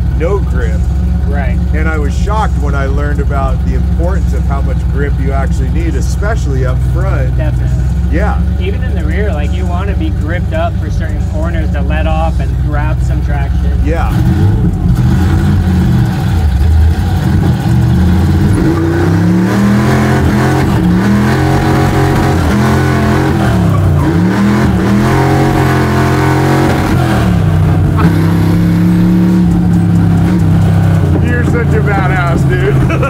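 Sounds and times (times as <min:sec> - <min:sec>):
truck engine revving hard: 0:00.0 - 0:33.0.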